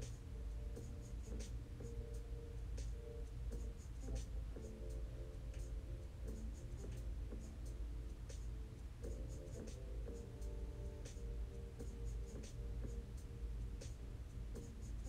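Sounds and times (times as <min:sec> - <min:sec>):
light ticking percussion: 0:00.0 - 0:15.0
steady low bass: 0:00.0 - 0:15.0.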